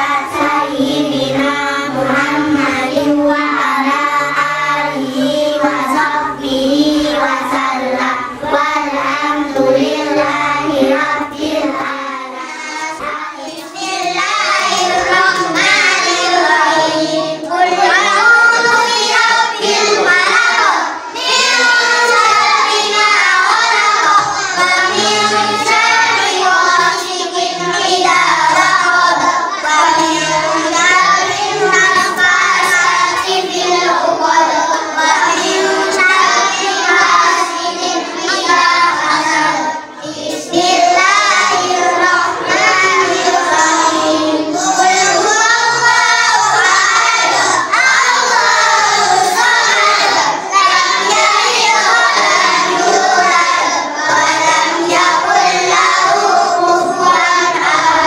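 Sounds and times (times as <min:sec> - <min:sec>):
boy chanting into microphone: 0:00.0 - 0:58.0.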